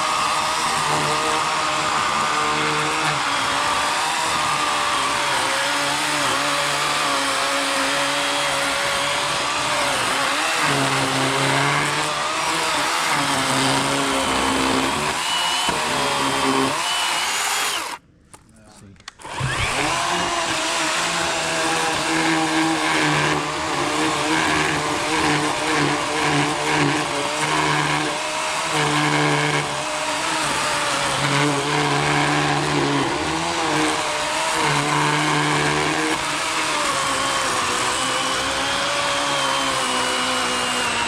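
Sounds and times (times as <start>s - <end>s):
electric chainsaw cutting log: 0.0s - 18.0s, 19.2s - 41.0s.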